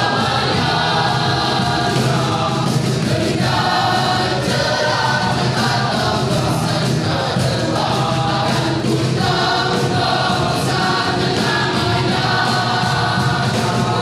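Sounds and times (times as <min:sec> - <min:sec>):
choir singing in parts: 0:00.0 - 0:14.0.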